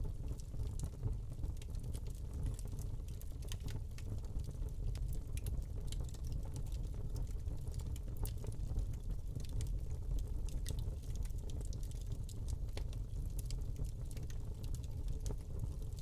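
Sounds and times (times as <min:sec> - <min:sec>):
wood fire crackling in fireplace: 0:00.0 - 0:16.0.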